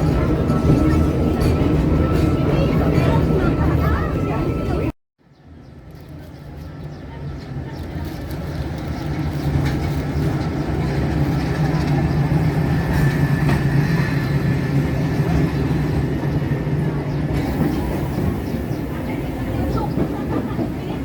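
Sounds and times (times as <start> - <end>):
electric train running on track: 0.0 - 4.9, 6.5 - 21.0.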